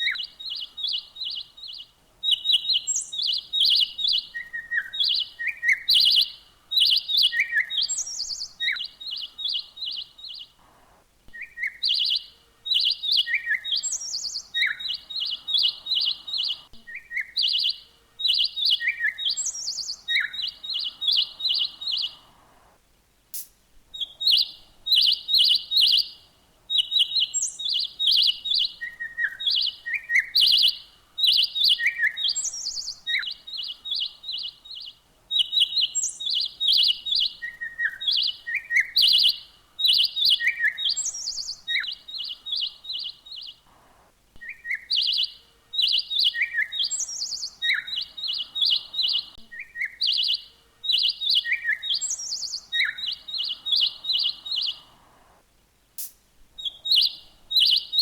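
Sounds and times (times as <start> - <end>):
bird chirping: 0.0 - 22.8, 23.4 - 55.4, 56.0 - 58.0.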